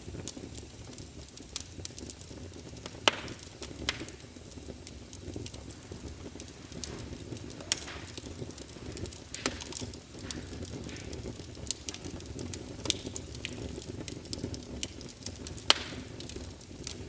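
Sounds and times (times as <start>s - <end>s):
log fire crackling and popping: 0.0s - 17.0s.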